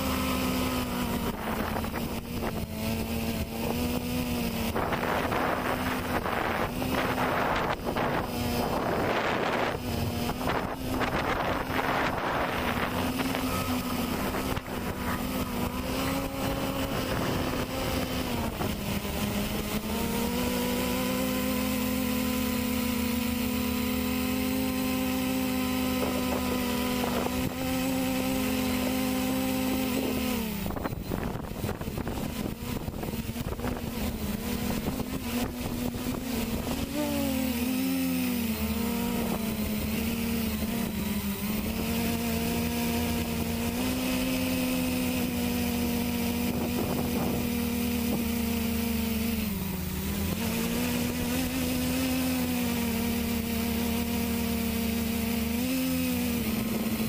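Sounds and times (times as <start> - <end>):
quadcopter motors buzzing: 0.0 - 57.0.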